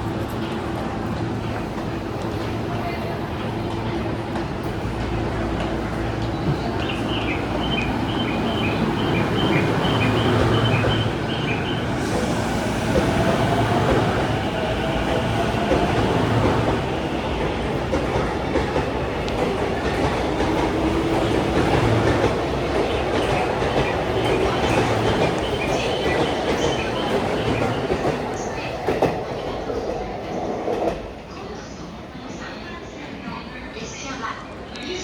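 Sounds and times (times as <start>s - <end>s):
train rumble: 0.0s - 32.3s.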